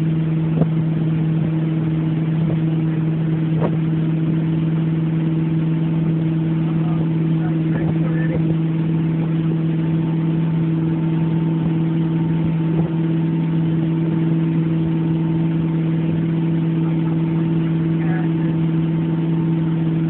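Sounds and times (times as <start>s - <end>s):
boat engine drone: 0.0s - 20.0s
churning wake water: 0.0s - 20.0s.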